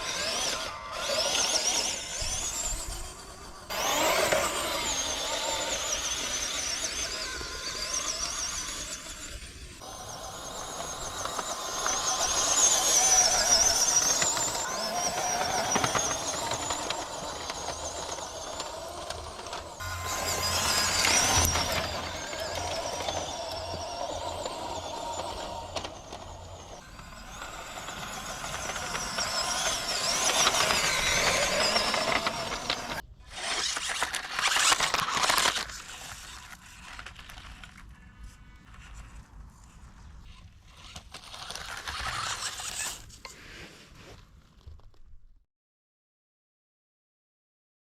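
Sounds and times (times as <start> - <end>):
toy truck electric motor whining: 0.0 - 43.3.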